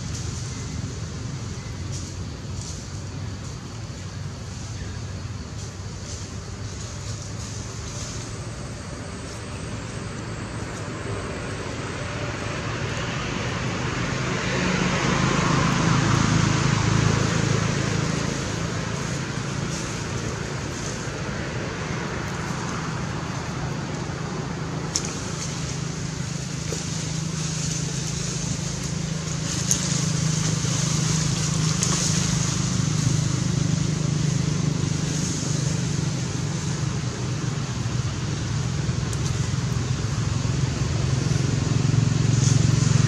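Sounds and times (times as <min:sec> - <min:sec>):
steady high hiss: 0:00.0 - 0:43.0
vehicle engine running: 0:00.0 - 0:43.0.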